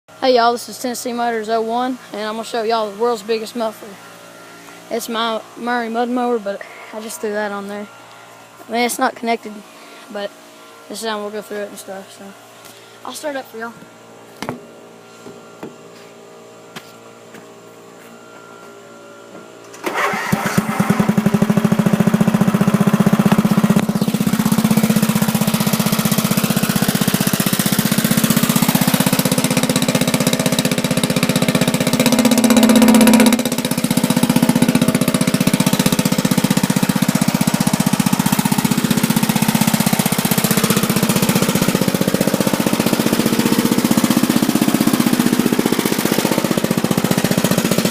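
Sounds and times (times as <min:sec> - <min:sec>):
riding mower engine: 0:00.1 - 0:47.9.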